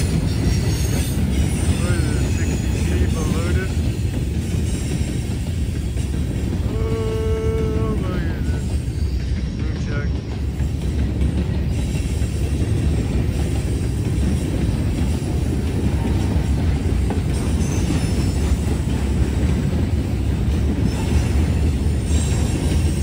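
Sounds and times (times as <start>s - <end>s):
train wheels on rail: 0.0s - 23.0s.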